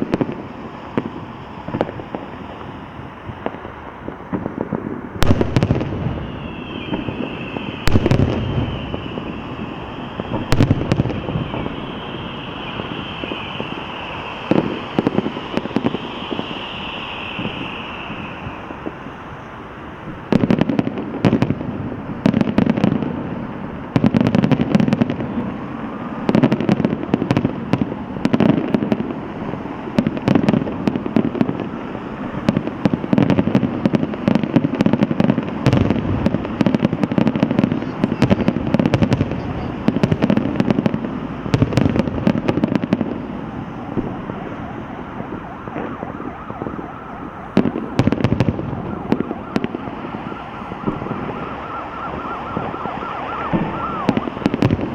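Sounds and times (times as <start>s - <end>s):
crackling firework bangs: 0.0s - 54.9s.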